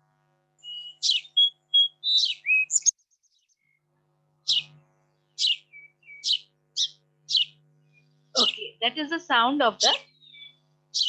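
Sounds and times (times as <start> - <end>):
sparrow chirping: 0.6 - 3.8, 4.4 - 11.0.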